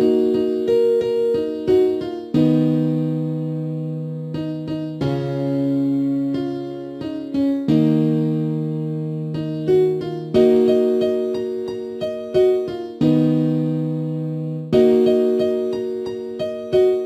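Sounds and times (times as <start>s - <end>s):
high piano melody notes: 0.0s - 17.0s
sustained piano chords: 0.0s - 17.0s.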